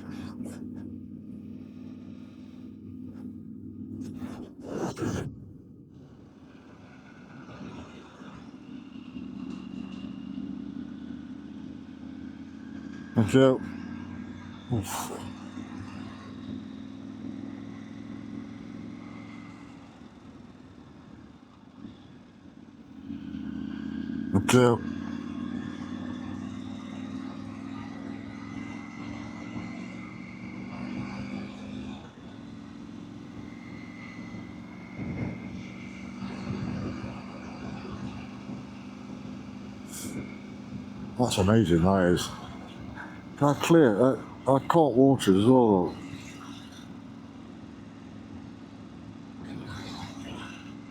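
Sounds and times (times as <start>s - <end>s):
motorcycle engine running: 0.0s - 20.6s, 22.5s - 50.9s
road noise: 0.0s - 50.9s.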